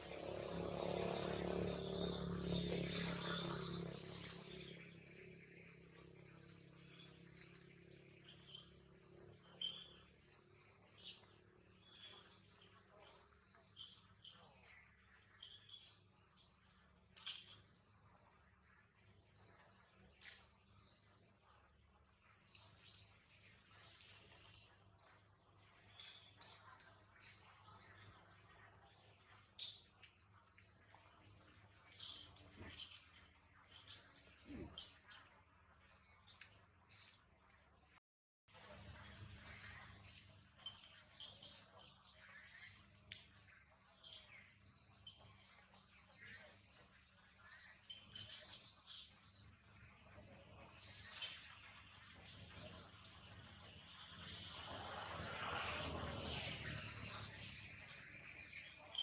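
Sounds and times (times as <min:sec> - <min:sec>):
small birds chirping: 0:00.0 - 0:38.0, 0:38.6 - 0:59.0.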